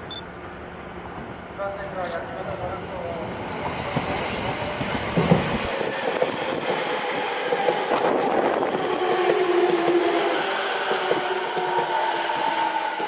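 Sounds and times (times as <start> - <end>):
train wheels rumbling on rails: 2.2 - 13.0.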